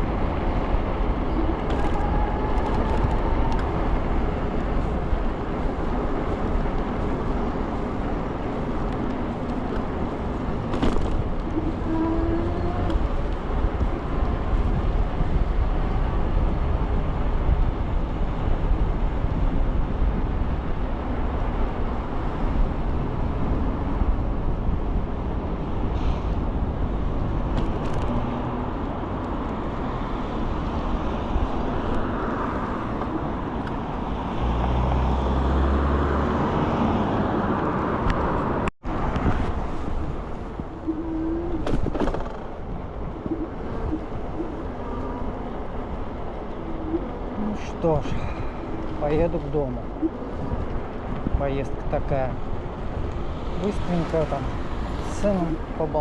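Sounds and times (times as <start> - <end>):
road noise: 0.0 - 56.0
wind rumble: 0.0 - 56.0.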